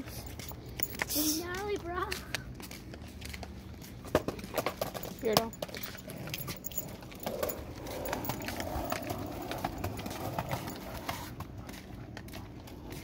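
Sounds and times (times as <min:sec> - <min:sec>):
footsteps on pavement: 0:00.0 - 0:13.0
dog claws clicking on pavement: 0:00.4 - 0:13.0.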